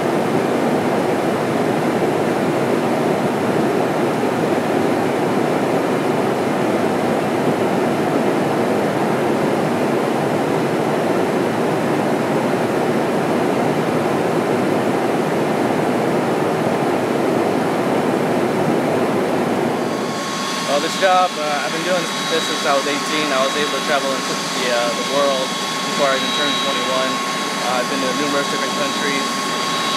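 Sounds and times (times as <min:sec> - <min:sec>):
airflow and engine noise in aircraft: 0:00.0 - 0:29.9.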